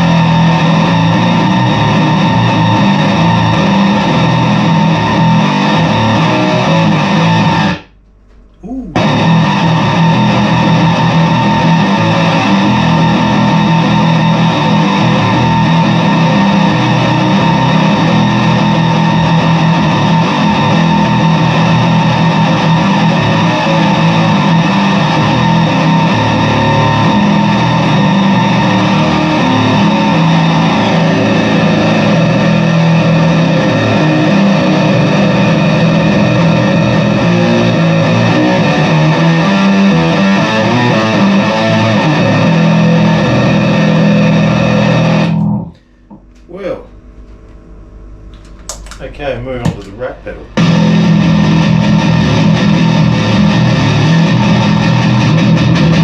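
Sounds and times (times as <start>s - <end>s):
distorted bass guitar: 0.0s - 46.5s, 49.6s - 56.0s.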